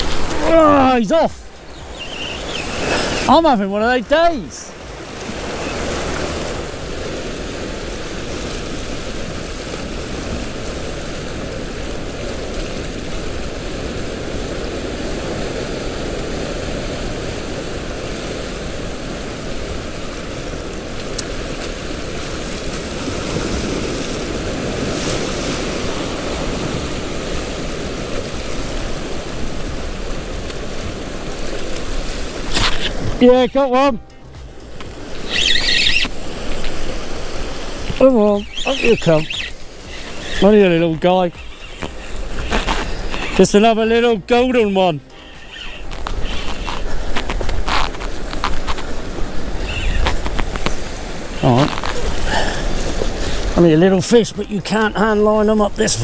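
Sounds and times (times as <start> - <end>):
surf breaking over rocks: 0.0 - 34.0, 36.0 - 56.0.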